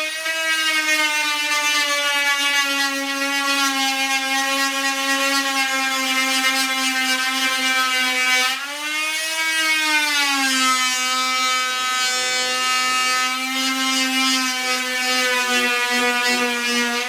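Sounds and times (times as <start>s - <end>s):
oscillating multi-tool cutting wood: 0.0s - 17.0s.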